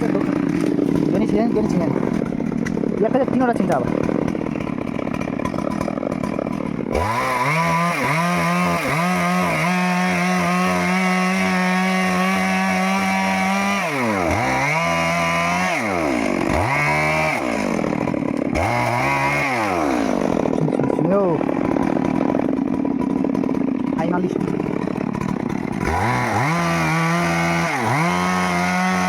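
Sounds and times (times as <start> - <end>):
chainsaw high-pitched scream: 0.0 - 22.6, 23.4 - 29.0.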